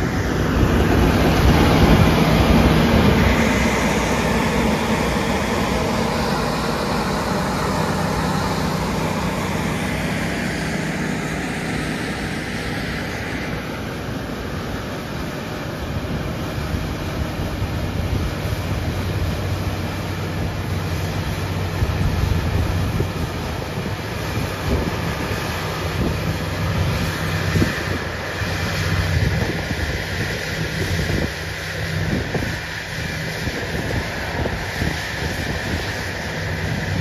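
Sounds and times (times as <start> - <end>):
combine harvester diesel drone: 0.0 - 37.0.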